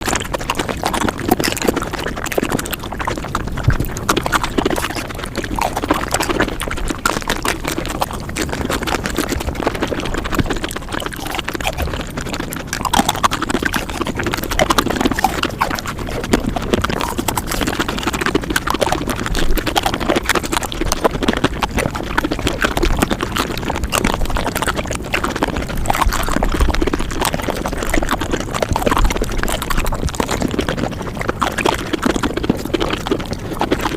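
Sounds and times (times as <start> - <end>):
sped-up chewing and slurping: 0.0 - 33.9.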